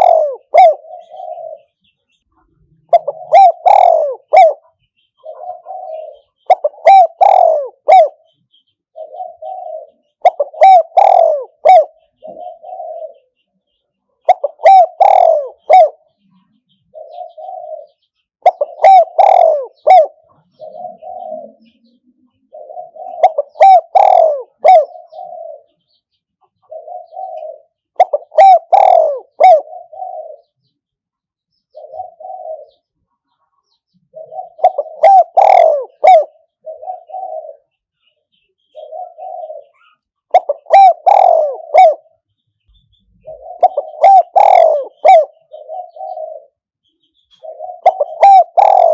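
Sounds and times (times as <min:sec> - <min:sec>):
dove cooing: 0:00.0 - 0:01.8, 0:02.4 - 0:13.4, 0:14.2 - 0:30.7, 0:31.7 - 0:38.1, 0:38.7 - 0:48.9.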